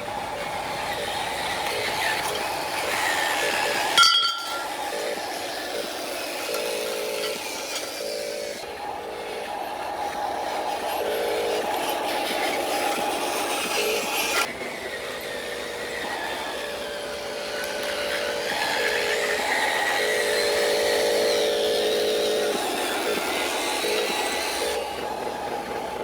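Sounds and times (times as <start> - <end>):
toy truck motor whining: 0.0 - 26.0.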